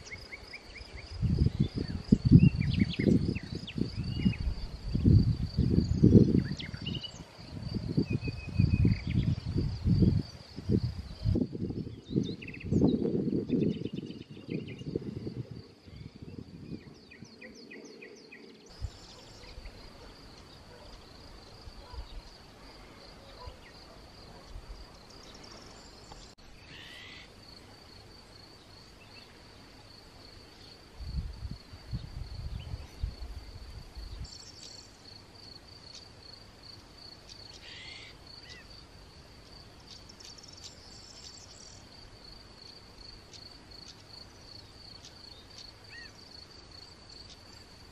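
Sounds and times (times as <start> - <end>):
cricket trilling: 0.0 - 47.9.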